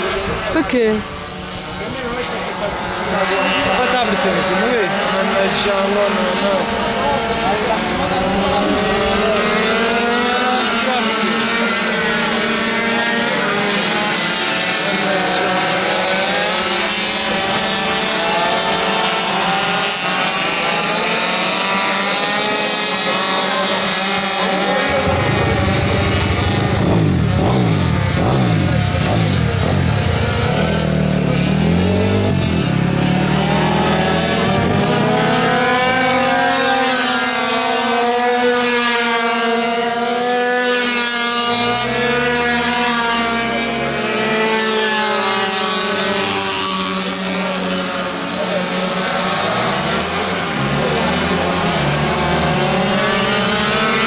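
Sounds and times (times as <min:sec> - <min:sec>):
small two-stroke engines whining: 0:00.0 - 0:54.0.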